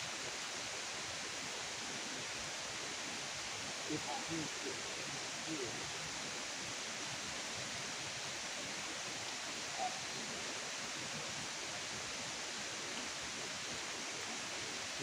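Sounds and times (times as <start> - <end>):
outdoor night hiss: 0.0 - 15.0.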